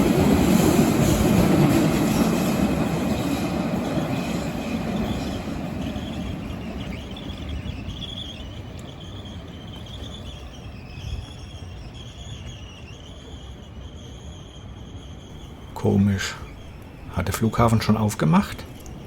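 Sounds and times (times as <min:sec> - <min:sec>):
crickets chirping: 0:00.0 - 0:19.0
train rumbling: 0:00.0 - 0:19.0.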